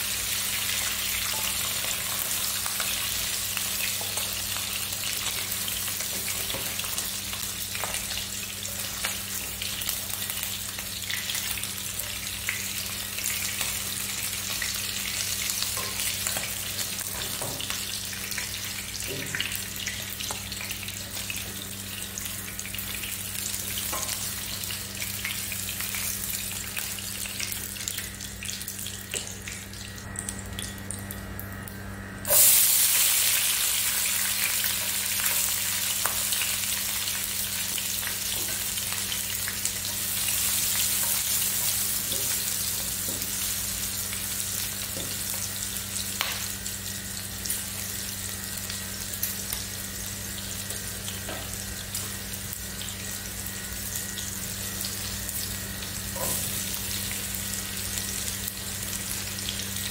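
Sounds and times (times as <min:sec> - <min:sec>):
oil sizzling in a wok: 0:00.0 - 0:30.5, 0:32.2 - 0:59.9.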